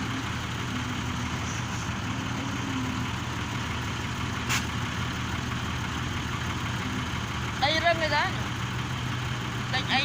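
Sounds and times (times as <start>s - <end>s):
diesel engine running steadily: 0.0s - 10.0s.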